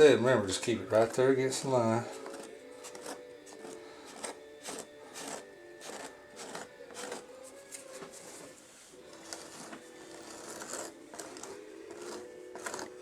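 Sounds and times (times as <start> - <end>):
faint scraping strokes: 1.6 - 13.0.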